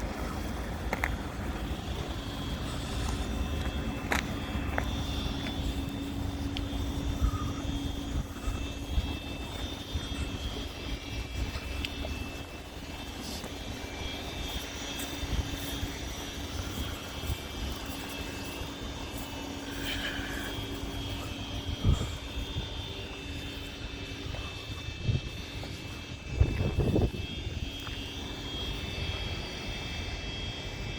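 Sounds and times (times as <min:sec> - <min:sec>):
freight train rumbling on track: 0:00.0 - 0:30.9.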